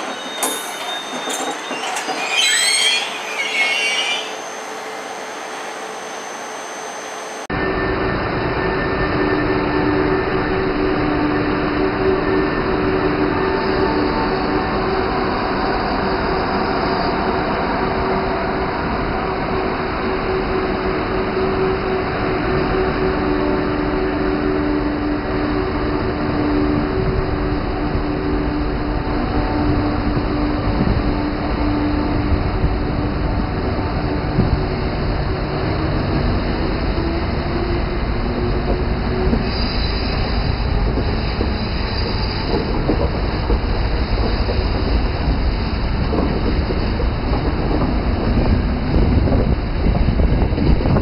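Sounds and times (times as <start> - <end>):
train rolling rumble: 0.0 - 5.5, 7.5 - 51.0
train wheel squeal: 0.0 - 51.0.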